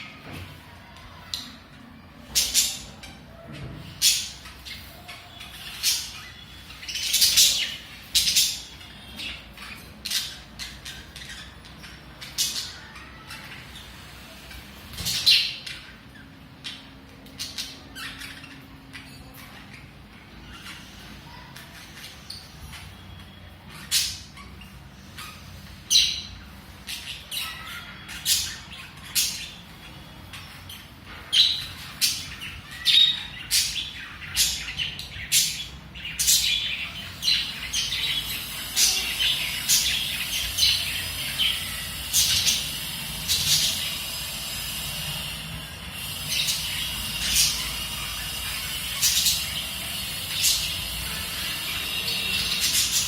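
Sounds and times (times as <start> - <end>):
budgerigars chirping: 3.8 - 53.0.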